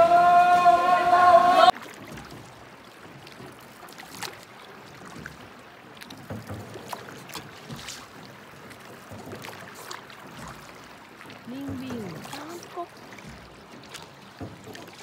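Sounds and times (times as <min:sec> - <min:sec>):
oars splashing and dripping: 0:00.0 - 0:15.0.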